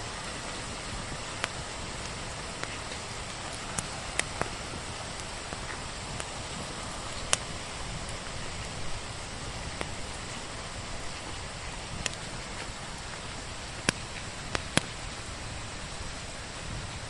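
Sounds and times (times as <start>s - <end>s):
steady rain hiss: 0.0s - 17.0s
wood fire crackling: 0.0s - 17.0s.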